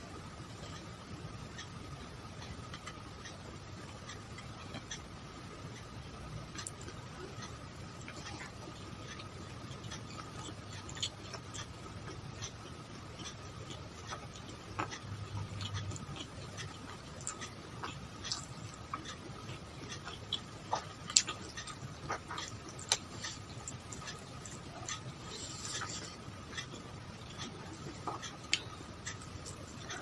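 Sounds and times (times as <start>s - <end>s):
faint electrical hum: 0.0s - 30.0s
chewing: 0.4s - 30.0s.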